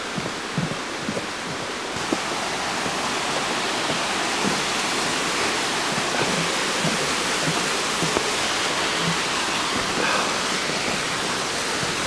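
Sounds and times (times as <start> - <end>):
soft footsteps on steps: 0.0 - 12.0
waterfall rushing: 0.0 - 12.0.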